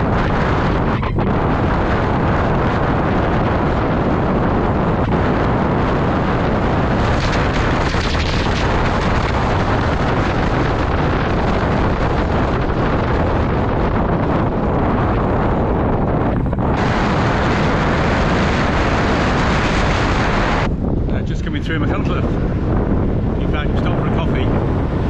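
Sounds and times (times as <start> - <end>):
heavy wind buffeting microphone: 0.0 - 25.0.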